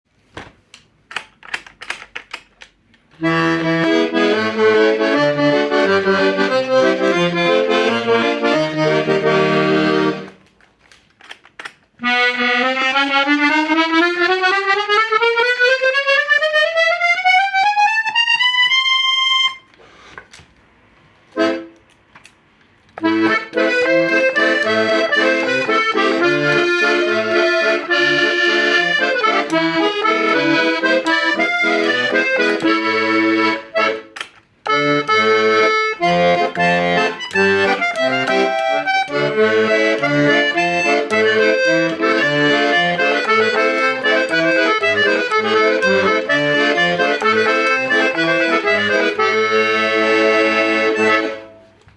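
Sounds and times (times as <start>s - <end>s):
piano accordion playing: 3.1s - 10.5s, 12.0s - 19.8s, 21.2s - 22.0s, 23.0s - 51.8s.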